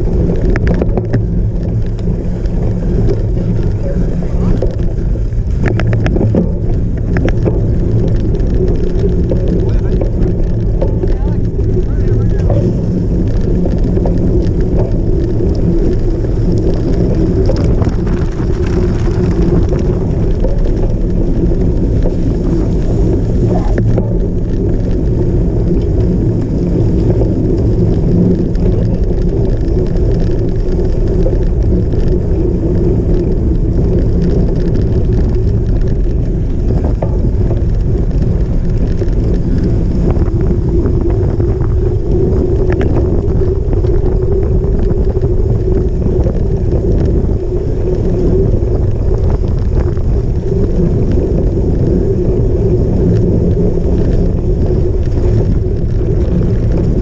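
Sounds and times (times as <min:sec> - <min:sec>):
bike tyres rumbling off-road: 0:00.0 - 0:57.0
wind buffeting microphone: 0:00.0 - 0:57.0.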